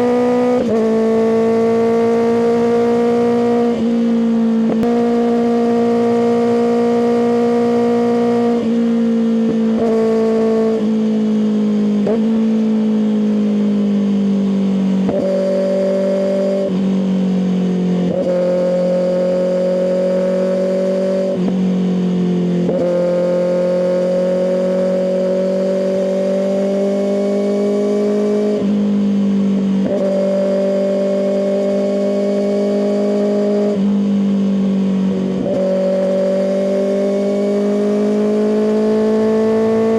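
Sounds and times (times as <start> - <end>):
motorcycle engine running: 0.0 - 20.4, 27.9 - 39.9.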